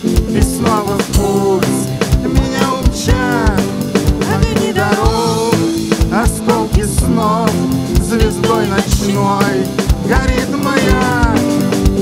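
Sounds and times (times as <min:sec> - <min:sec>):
drum kit steady beat: 0:00.0 - 0:12.0
electric guitar lead: 0:00.0 - 0:12.0
sustained keyboard chords: 0:00.0 - 0:12.0.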